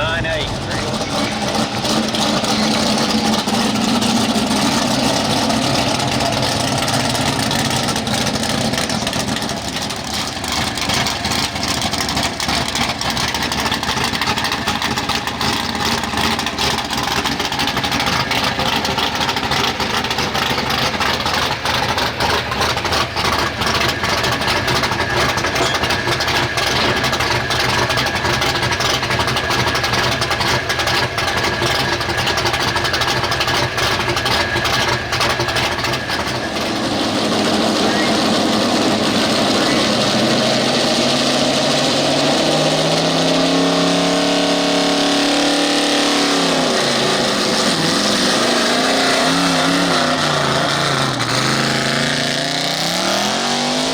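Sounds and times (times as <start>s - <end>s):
truck engine running loudly: 0.0s - 53.9s.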